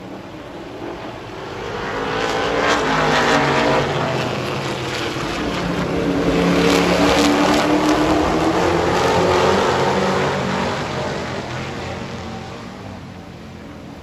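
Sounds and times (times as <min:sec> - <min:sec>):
race truck engines passing: 0:00.3 - 0:14.0.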